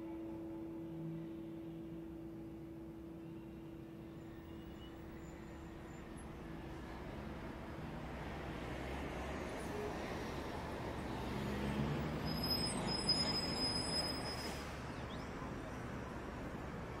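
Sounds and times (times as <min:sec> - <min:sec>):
low rumble of background noise: 0:00.0 - 0:17.0.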